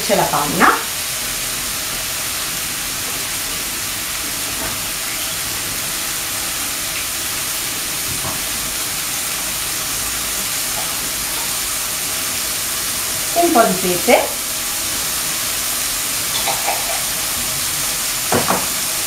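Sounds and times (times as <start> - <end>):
mushrooms sizzling in oil: 0.0 - 19.0.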